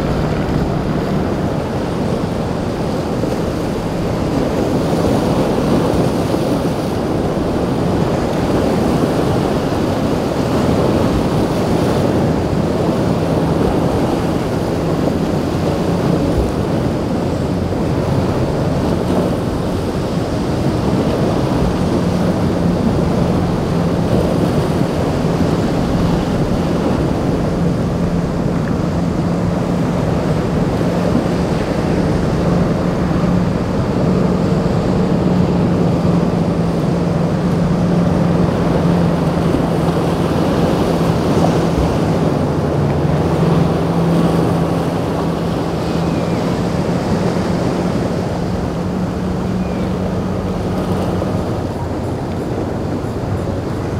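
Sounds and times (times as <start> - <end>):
boat engines droning: 0.0 - 53.9
breaking waves: 0.0 - 53.9
hull wash: 0.0 - 53.9
wind on microphone: 0.0 - 53.9.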